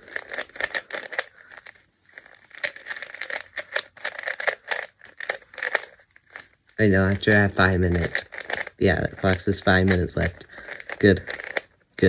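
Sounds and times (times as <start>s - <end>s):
plastic puzzle cube clicking: 0.0s - 11.8s.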